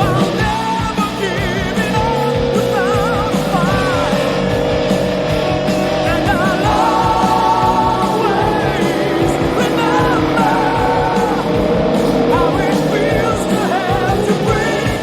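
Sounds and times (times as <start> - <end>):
person singing with vibrato: 0.0 - 15.0
steady drum beat: 0.0 - 15.0
sustained guitar notes: 0.0 - 15.0.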